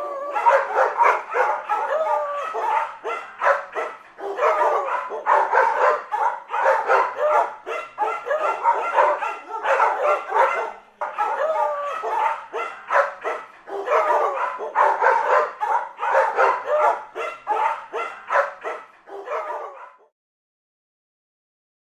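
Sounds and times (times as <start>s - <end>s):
dogs barking: 0.0s - 20.1s.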